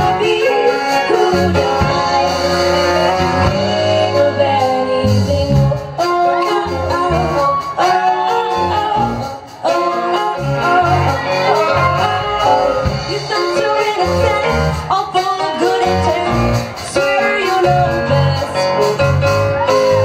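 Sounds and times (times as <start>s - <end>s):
live band playing: 0.0s - 20.0s
woman singing: 0.0s - 20.0s.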